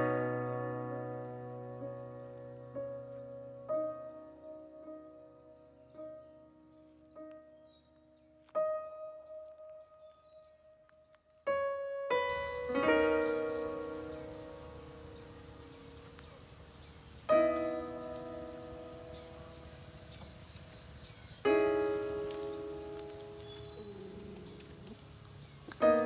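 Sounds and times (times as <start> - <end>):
insect chorus: 0.0 - 26.0
slow solo piano: 0.0 - 26.0.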